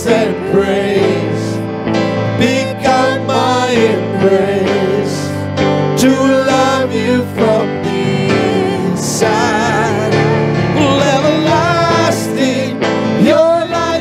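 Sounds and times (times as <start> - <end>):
person singing with vibrato: 0.0 - 14.0
worship band playing slow song: 0.0 - 14.0.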